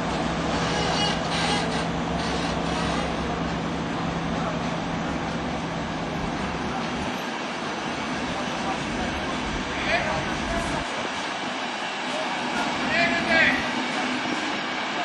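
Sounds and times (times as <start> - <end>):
diesel engine drone: 0.0 - 15.0
train wheels rumbling: 0.0 - 15.0.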